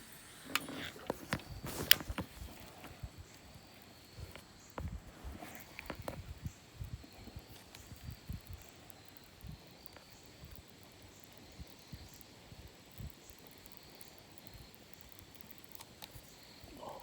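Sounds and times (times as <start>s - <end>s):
high insect chirping: 0.0s - 17.0s.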